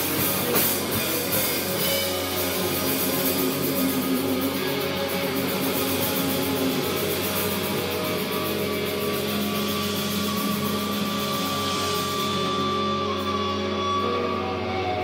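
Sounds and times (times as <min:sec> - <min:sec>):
rock band playing distorted guitars: 0:00.0 - 0:15.0.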